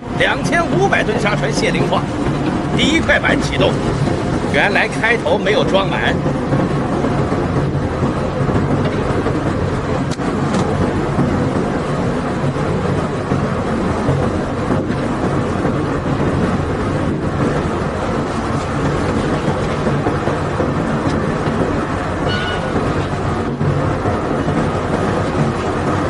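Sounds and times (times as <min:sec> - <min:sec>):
low engine hum: 0:00.0 - 0:26.0
unloading machinery rumble: 0:00.0 - 0:26.0.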